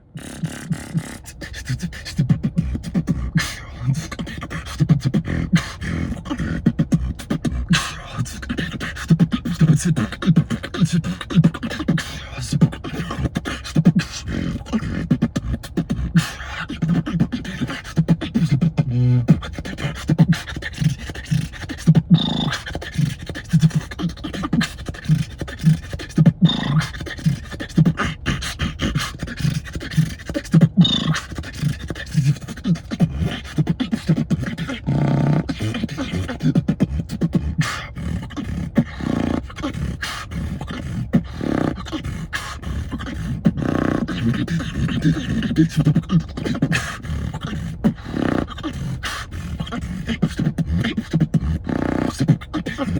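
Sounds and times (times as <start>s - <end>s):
person beatboxing: 0.0s - 52.9s.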